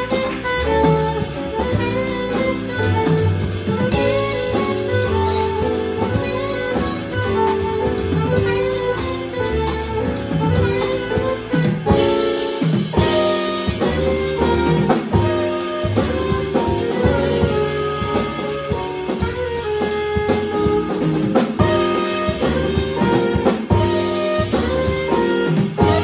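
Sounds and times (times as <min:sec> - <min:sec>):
drum kit with cymbals: 0:00.0 - 0:26.0
piano: 0:00.0 - 0:26.0
saxophone melody: 0:00.0 - 0:26.0
upright bass: 0:00.0 - 0:26.0.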